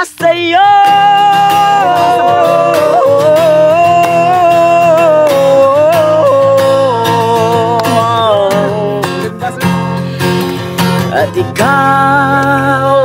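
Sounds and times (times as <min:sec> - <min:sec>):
man singing: 0:00.0 - 0:09.9, 0:10.8 - 0:13.0
acoustic guitar strumming: 0:00.0 - 0:13.0.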